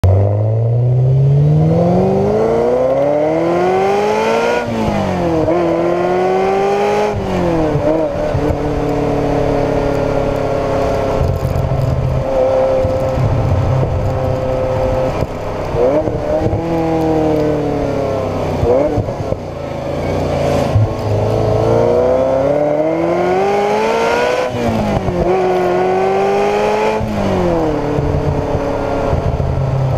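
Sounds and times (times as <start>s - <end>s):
car engine accelerating: 0.0s - 29.9s.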